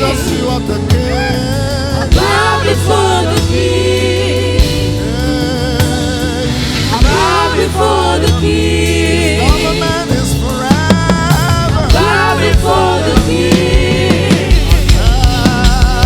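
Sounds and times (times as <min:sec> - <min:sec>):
band with bass and drums: 0:00.0 - 0:16.0
gospel singing voices: 0:00.0 - 0:16.0.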